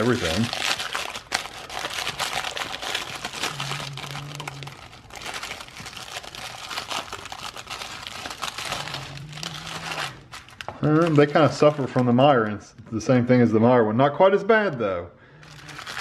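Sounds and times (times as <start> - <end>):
foil wrapper crinkling: 0.0 - 12.4, 15.4 - 16.0.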